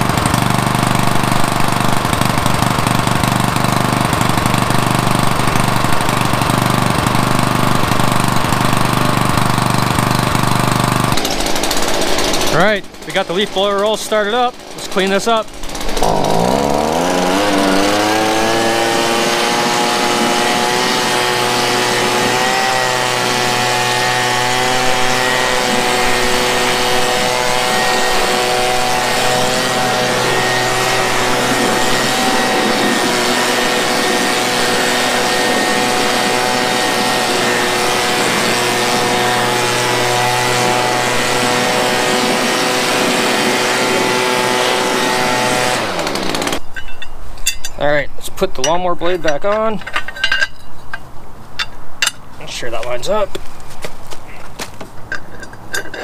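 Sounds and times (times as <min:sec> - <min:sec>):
leaf blower running: 0:00.0 - 0:46.7.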